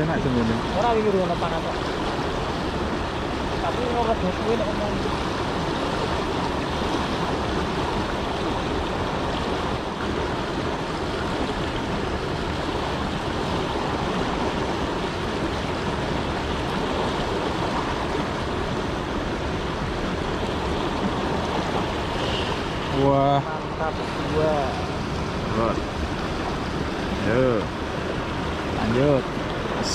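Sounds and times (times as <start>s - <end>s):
flowing river water: 0.0s - 29.9s.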